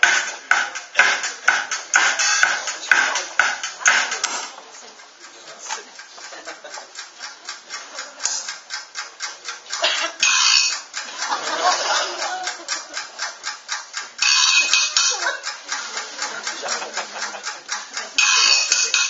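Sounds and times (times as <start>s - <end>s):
rapid even ticking: 0.0s - 19.0s.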